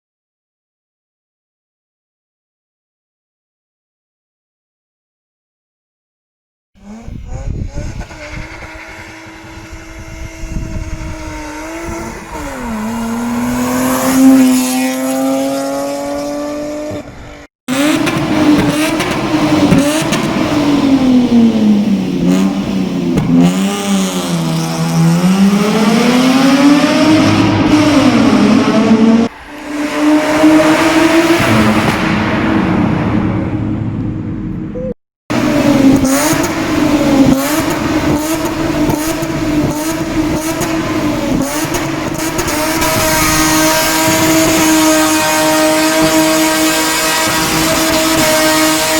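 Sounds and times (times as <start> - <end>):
car engine revving: 6.8 - 48.9.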